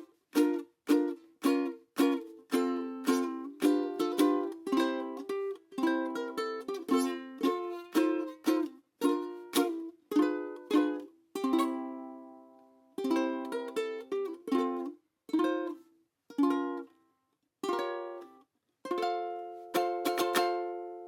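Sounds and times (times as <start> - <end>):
ukulele strummed chords: 0.0 - 17.0, 17.6 - 21.0.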